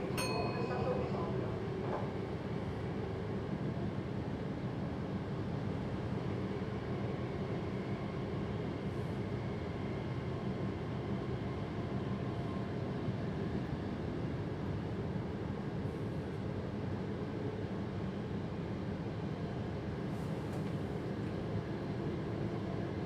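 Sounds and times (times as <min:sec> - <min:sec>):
train rumbling along track: 0:00.0 - 0:23.0.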